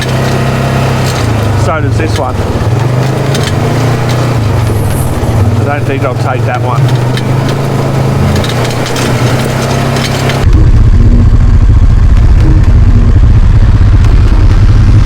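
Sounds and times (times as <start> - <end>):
off-road vehicle engine running: 0.0 - 15.0
rattling: 0.0 - 15.0.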